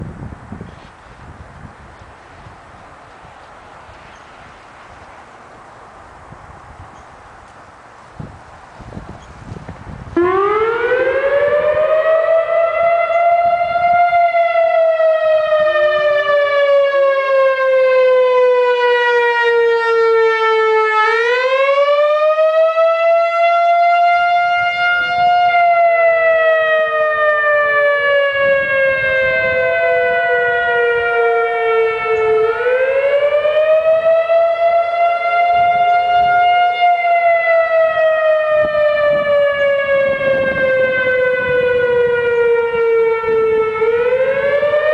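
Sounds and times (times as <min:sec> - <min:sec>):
outdoor warning siren wailing: 0:01.6 - 0:06.8, 0:07.8 - 0:44.9.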